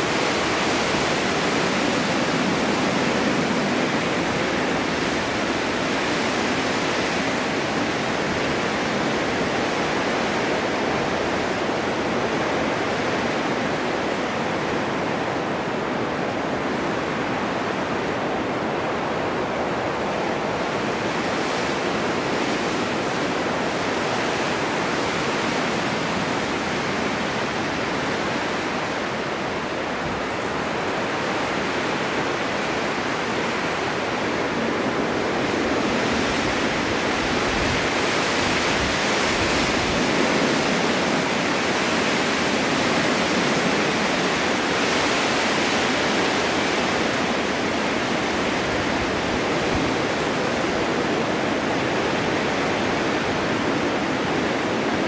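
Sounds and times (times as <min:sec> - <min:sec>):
snowstorm wind rushing: 0:00.0 - 0:55.0.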